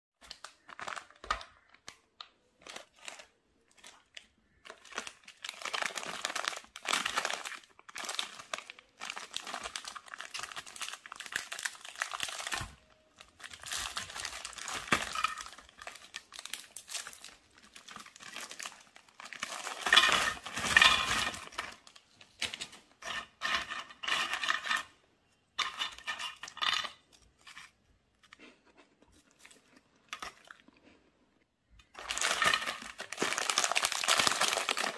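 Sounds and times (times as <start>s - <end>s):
plastic wrappers crinkling and tearing: 0.2s - 24.9s, 25.6s - 31.0s, 31.6s - 34.9s.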